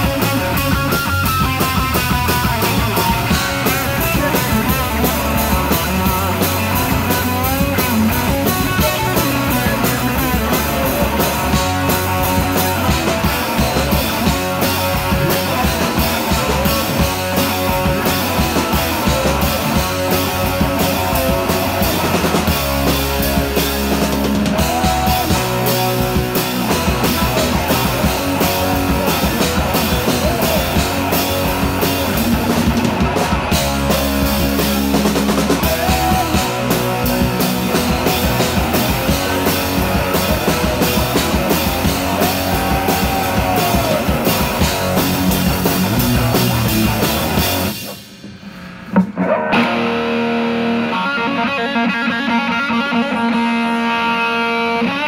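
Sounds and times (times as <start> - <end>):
loud rock music: 0.0 - 55.0.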